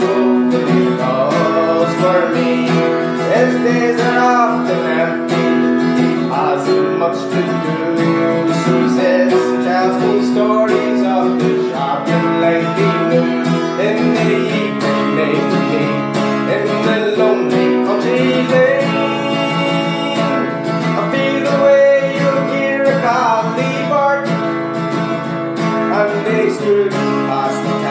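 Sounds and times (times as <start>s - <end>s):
folk song on acoustic guitar: 0.0s - 27.9s.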